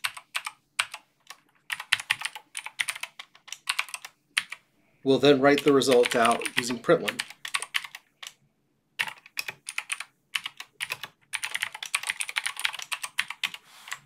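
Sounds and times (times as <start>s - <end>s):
typing on computer keyboard: 0.0s - 4.6s, 5.6s - 8.4s, 9.0s - 14.0s.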